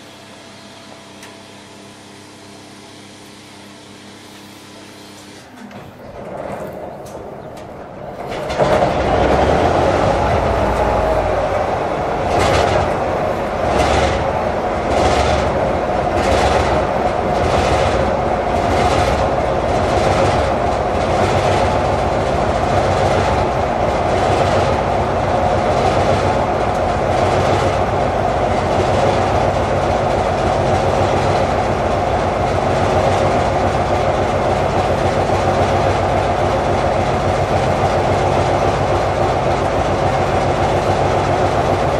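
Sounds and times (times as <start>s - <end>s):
diesel locomotive engine starting: 4.3s - 41.9s.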